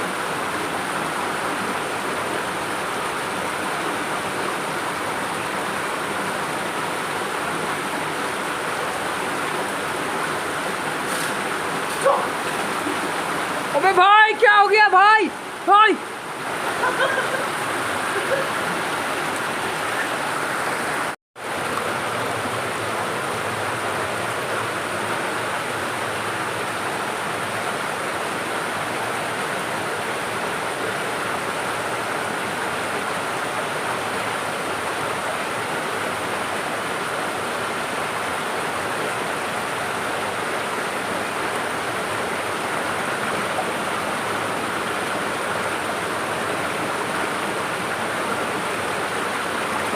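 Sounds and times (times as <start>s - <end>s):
waterfall pouring: 0.0s - 49.9s.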